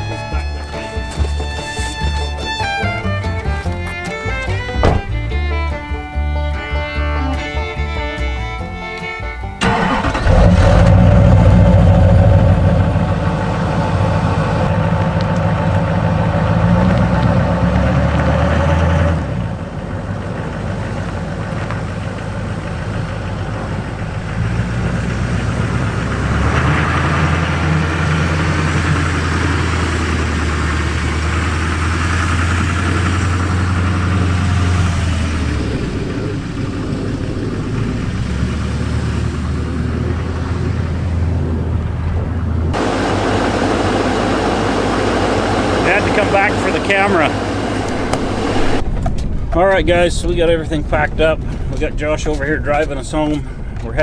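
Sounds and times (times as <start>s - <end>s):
pickup truck engine driving off: 0.0s - 54.0s.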